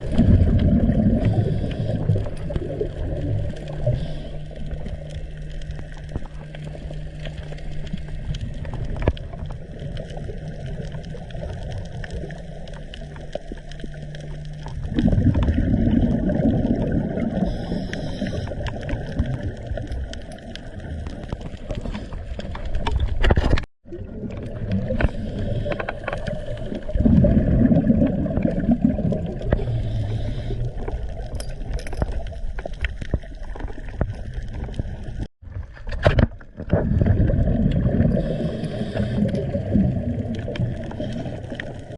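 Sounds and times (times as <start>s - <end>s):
fine crackle of clicks: 0.0s - 27.0s, 28.4s - 36.8s, 37.4s - 41.9s
underwater bubbles gurgling: 0.0s - 41.9s.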